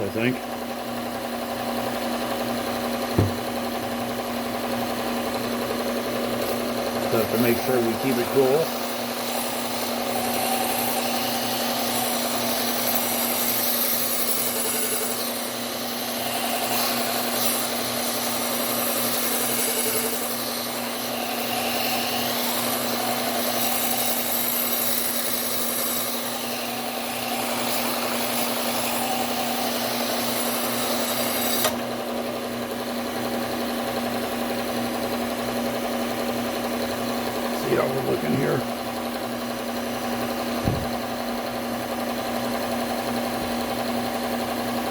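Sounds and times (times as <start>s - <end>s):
belt sander motor hum: 0.0s - 44.9s
sander grinding steel: 1.5s - 44.9s.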